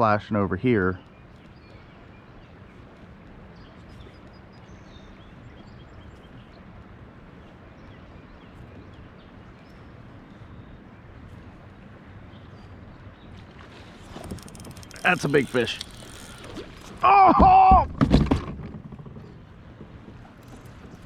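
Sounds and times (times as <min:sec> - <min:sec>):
faint songbirds chirping: 0:00.0 - 0:17.2.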